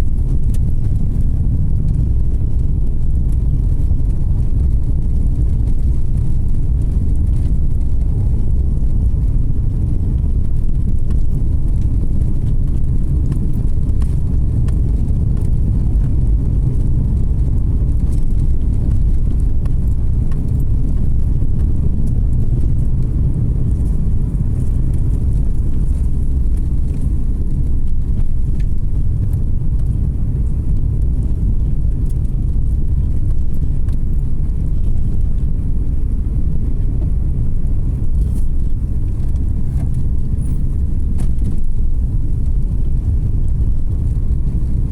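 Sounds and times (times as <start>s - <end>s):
car driving on road: 0.0s - 44.9s.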